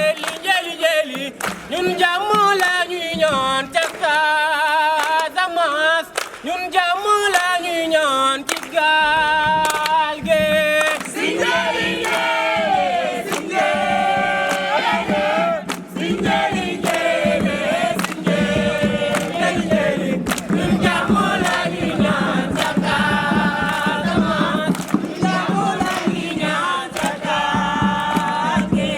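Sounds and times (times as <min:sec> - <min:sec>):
group singing a chant: 0:00.0 - 0:28.9.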